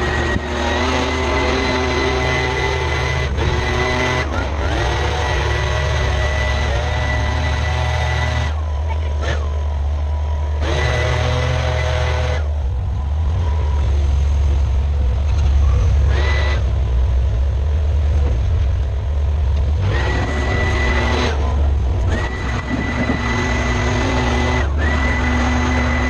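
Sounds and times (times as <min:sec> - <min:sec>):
high steady whine: 0:00.0 - 0:26.0
skid steer engine running: 0:00.0 - 0:26.0.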